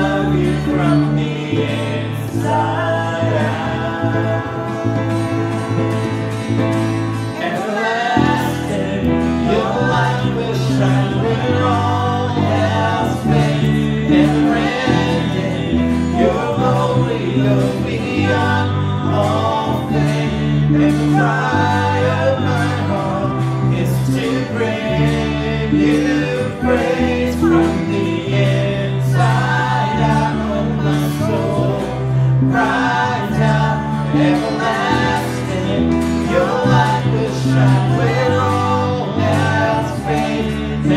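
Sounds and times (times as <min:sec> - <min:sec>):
band playing worship music: 0:00.0 - 0:40.9
voices singing: 0:00.0 - 0:40.9.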